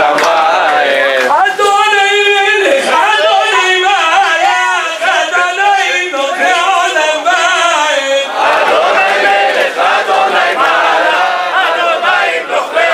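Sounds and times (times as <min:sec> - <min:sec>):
crowd of men singing: 0:00.0 - 0:01.4, 0:02.3 - 0:12.9.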